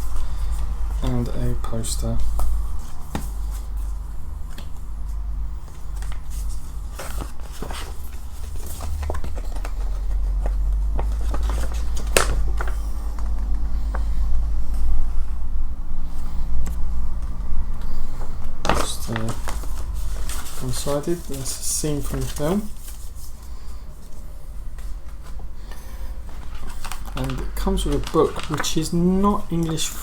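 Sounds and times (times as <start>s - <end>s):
paper rustling: 0.0s - 14.2s, 17.8s - 30.0s
steady low hum: 0.0s - 30.0s.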